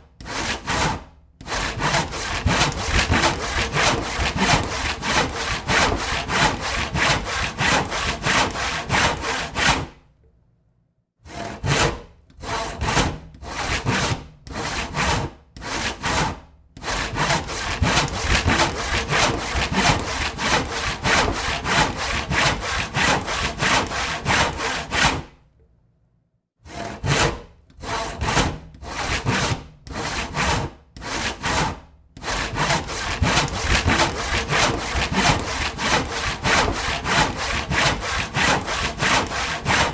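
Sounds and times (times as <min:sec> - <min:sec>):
hand saw cutting wood: 0:00.2 - 0:10.0, 0:11.2 - 0:25.4, 0:26.6 - 0:39.9.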